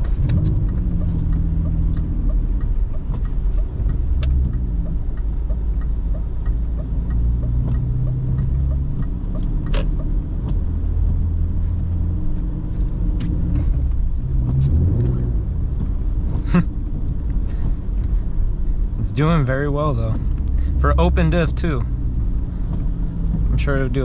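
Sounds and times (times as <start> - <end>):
car engine drone inside cabin: 0.0 - 24.0
light ticking: 0.0 - 24.0.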